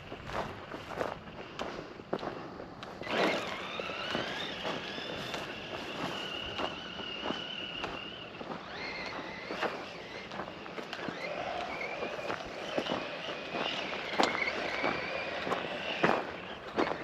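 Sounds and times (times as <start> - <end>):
clicks and knocks on rough dirt: 0.0 - 17.0
electric motor whining: 2.8 - 17.0.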